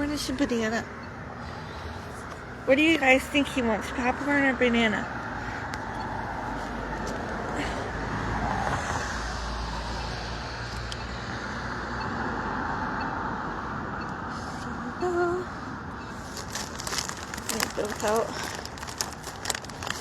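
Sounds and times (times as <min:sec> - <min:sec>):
passing vehicles: 0:00.0 - 0:20.0
vehicle rumbling by: 0:00.0 - 0:20.0.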